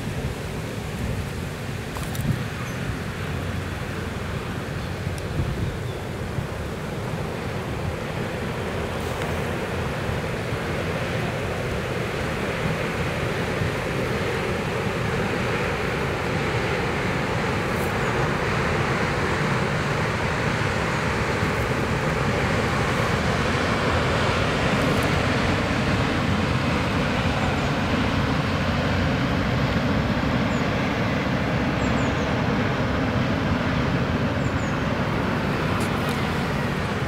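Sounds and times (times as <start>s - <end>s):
bow wave water rush: 0.0s - 37.0s
ship diesel engine rumble: 0.0s - 37.0s.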